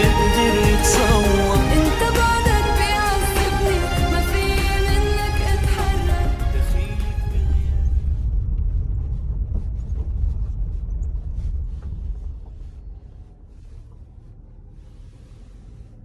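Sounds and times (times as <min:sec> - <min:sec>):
wind rumble on microphone: 0:01.6 - 0:16.0.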